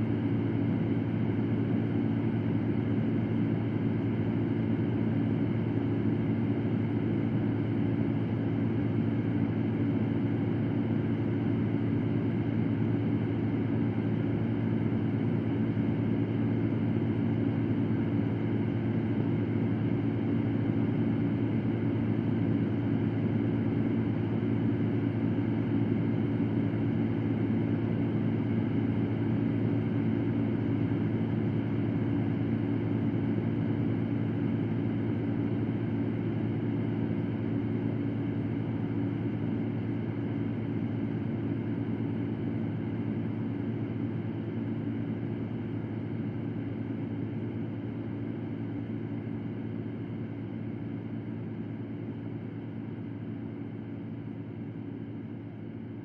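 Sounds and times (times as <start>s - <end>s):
electric fan running: 0.0s - 56.0s.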